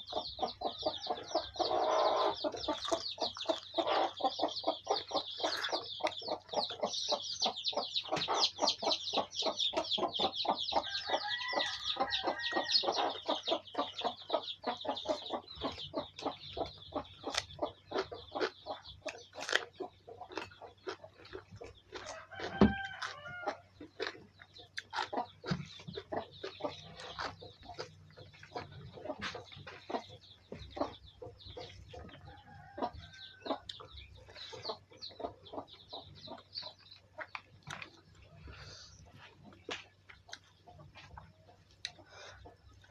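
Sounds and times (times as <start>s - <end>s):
chicken clucking: 0.0s - 42.9s
chickens chirping: 0.0s - 42.9s.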